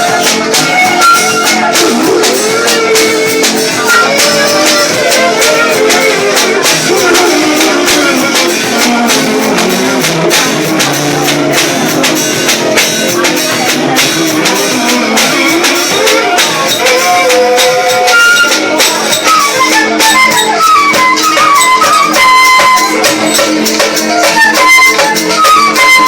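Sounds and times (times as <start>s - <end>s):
hand percussion beat: 0.0s - 26.0s
live band playing: 0.0s - 26.0s
person singing: 0.0s - 26.0s.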